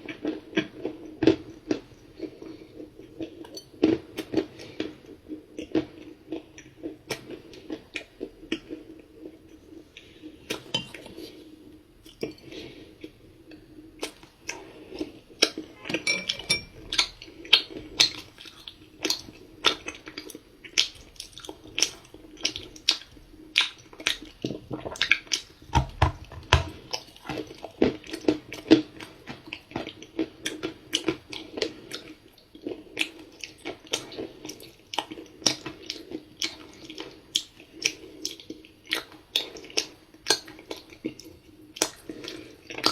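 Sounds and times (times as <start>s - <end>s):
chewing crunchy cookie: 0.0s - 15.9s, 16.7s - 25.8s, 26.4s - 42.9s.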